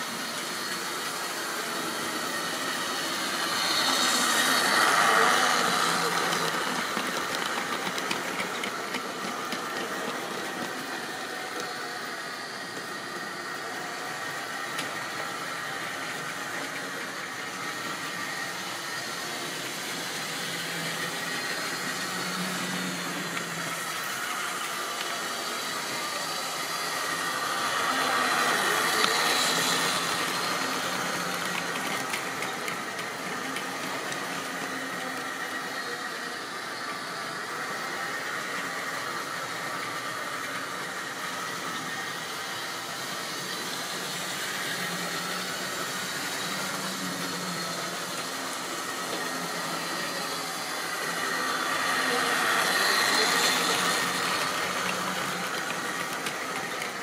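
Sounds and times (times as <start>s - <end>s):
model train motors whirring: 0.0s - 57.0s.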